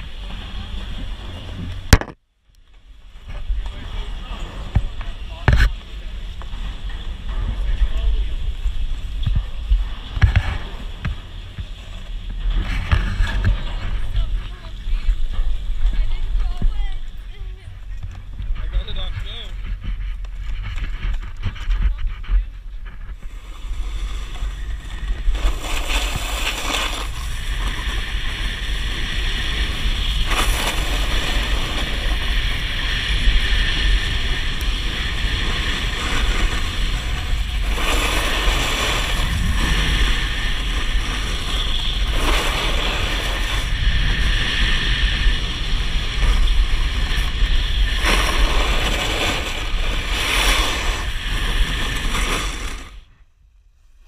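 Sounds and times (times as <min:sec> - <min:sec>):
snowboard scraping on snow: 0:00.0 - 0:01.9, 0:03.0 - 0:53.2
wind on microphone: 0:00.0 - 0:02.2, 0:02.8 - 0:53.2
low rumble: 0:00.0 - 0:54.0.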